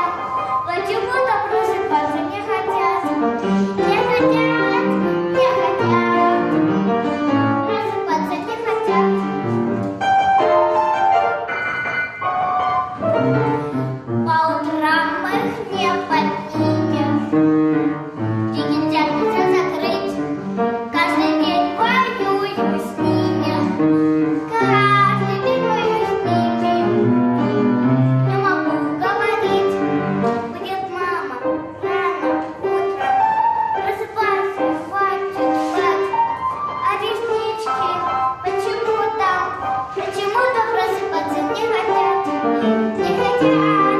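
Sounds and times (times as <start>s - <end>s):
musical backing track: 0.0s - 43.9s.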